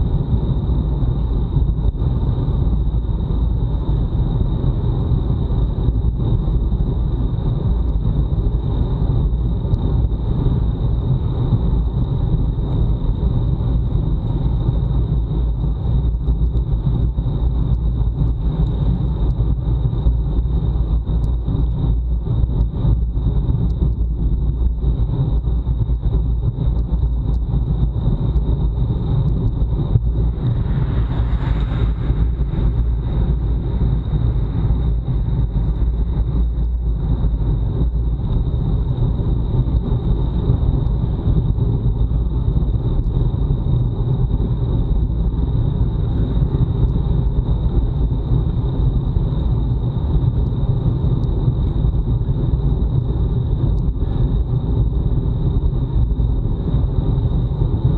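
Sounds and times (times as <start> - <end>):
faint high whine: 0.0 - 57.9
wind buffeting microphone: 0.0 - 57.9.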